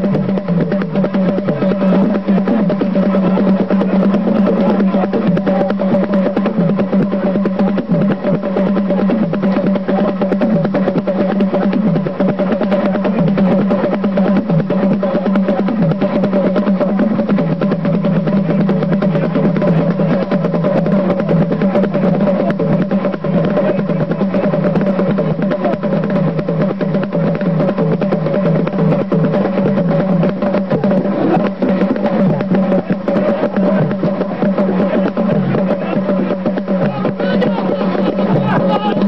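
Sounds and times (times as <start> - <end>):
fast dense drumming: 0.0 - 39.0
held two-tone drone: 0.0 - 39.0.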